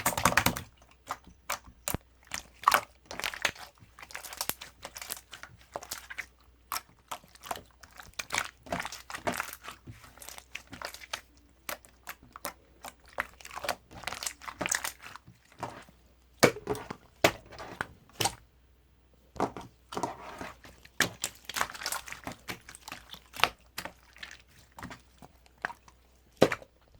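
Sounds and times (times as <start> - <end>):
crinkling and crackling with clicks: 0.0 - 18.4, 19.3 - 26.9.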